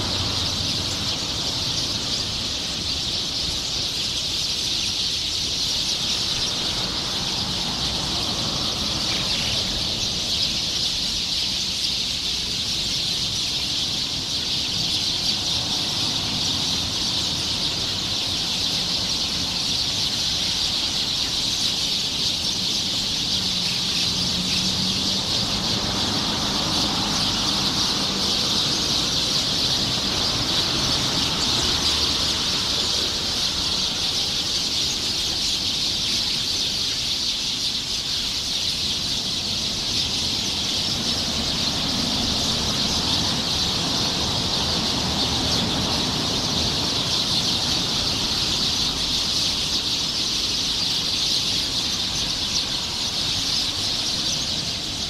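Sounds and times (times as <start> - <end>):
flock of small birds chirping: 0.0 - 55.0.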